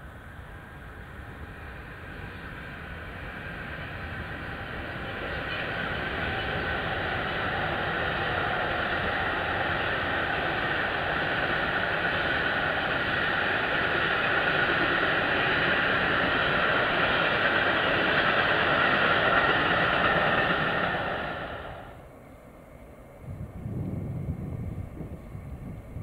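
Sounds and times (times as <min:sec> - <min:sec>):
train wagons rolling on rails: 0:00.0 - 0:22.1.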